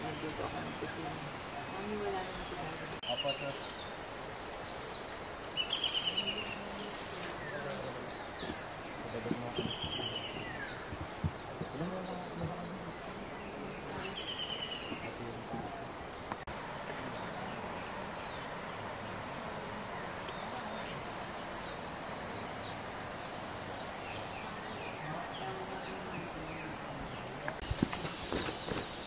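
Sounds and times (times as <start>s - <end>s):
steady hiss among trees: 0.0s - 29.0s.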